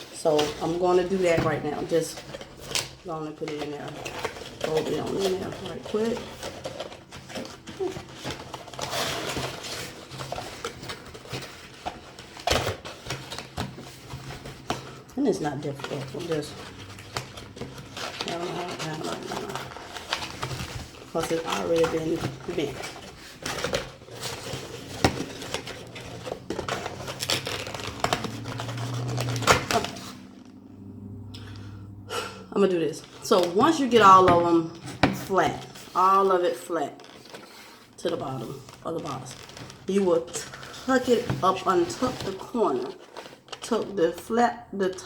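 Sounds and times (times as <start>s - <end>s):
cardboard rustling and creasing: 0.0s - 30.7s, 32.6s - 44.0s.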